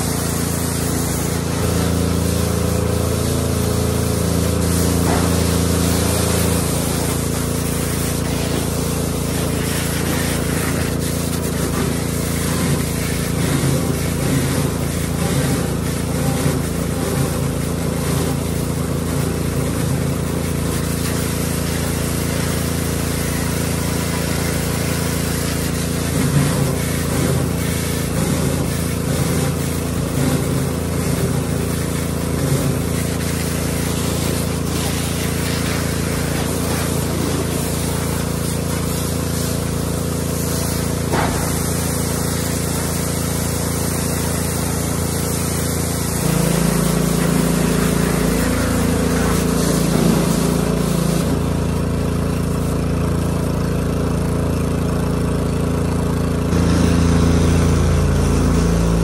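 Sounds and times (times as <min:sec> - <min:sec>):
engine-driven water pump: 0:00.0 - 0:59.0
water spray hissing on metal: 0:00.0 - 0:59.0.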